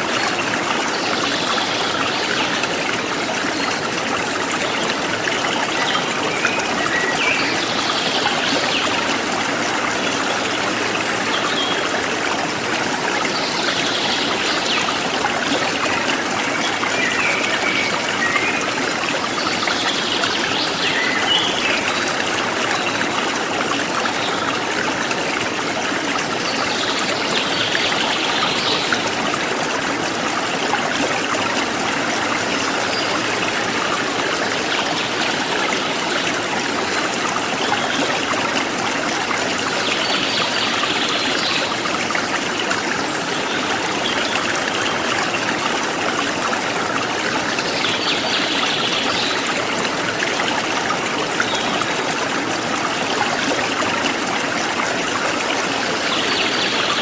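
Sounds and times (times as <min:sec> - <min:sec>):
forest stream flowing: 0:00.0 - 0:57.0.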